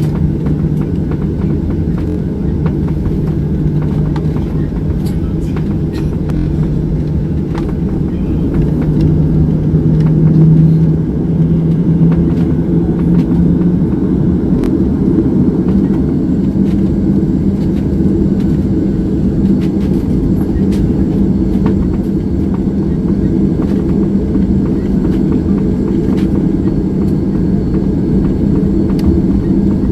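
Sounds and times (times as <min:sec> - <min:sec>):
airliner cabin engine rumble: 0:00.0 - 0:29.9
low hum: 0:00.0 - 0:29.9.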